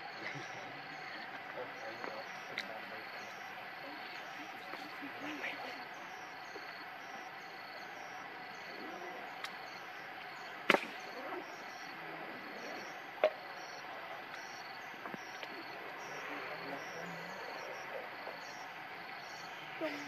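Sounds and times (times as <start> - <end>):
insects chirping in pulses: 0.0 - 20.0.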